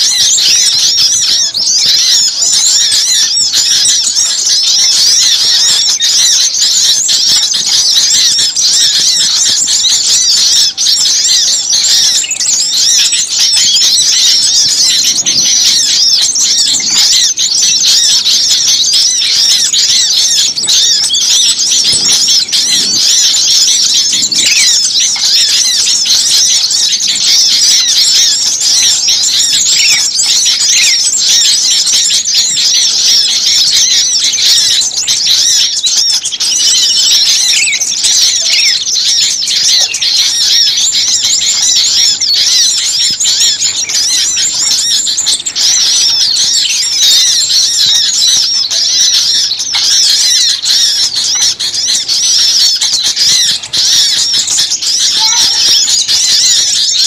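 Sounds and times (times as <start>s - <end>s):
chorus of small songbirds chirping: 0.0s - 57.0s.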